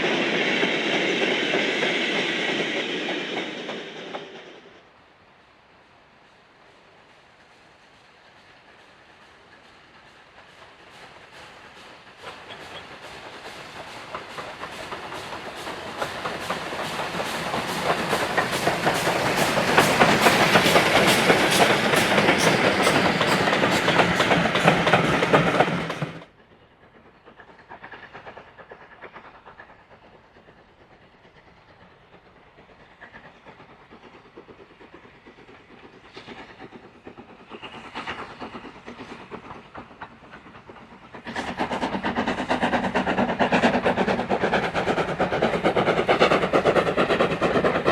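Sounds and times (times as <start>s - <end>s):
train clattering past: 0.0s - 5.0s, 6.2s - 47.9s.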